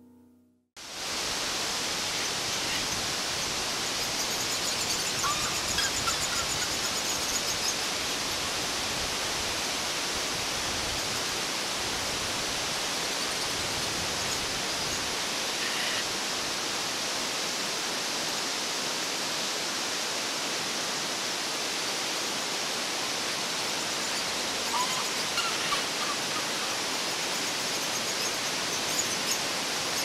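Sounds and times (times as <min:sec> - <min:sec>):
waterfall rushing: 0:00.8 - 0:07.1, 0:07.7 - 0:30.0.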